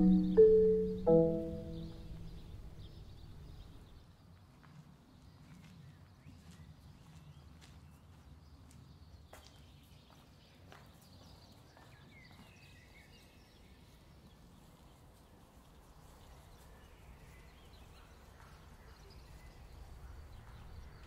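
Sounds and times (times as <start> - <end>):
small birds chirping: 0.0 - 4.0, 5.7 - 21.0.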